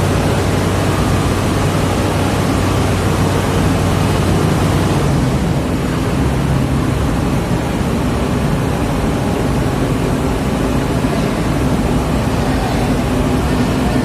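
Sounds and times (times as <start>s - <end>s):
heavy engine humming: 0.0s - 14.0s
loud rushing noise: 0.0s - 14.0s.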